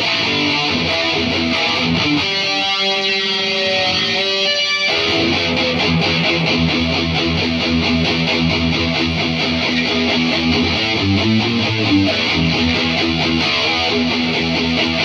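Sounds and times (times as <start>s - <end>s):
electric guitar chord ringing: 0.0s - 15.0s
electric guitar picked notes: 0.0s - 15.0s.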